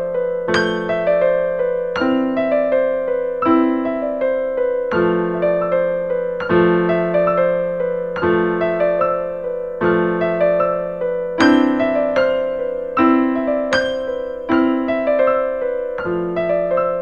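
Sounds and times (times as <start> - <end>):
slow piano piece: 0.0 - 17.0.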